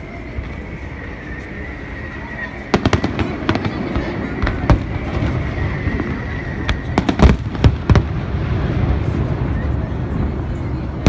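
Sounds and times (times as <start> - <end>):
fireworks bangs and crackling pops: 2.0 - 11.0.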